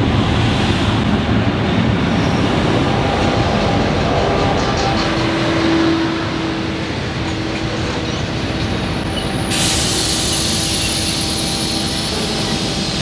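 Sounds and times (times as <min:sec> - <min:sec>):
train carriages rumbling past: 0:00.0 - 0:13.0.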